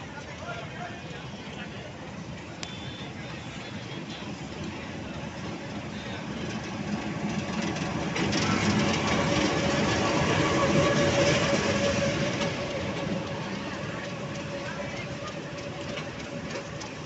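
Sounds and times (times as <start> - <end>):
diesel locomotive running: 0.0 - 17.0
train rolling on rails: 0.0 - 17.0.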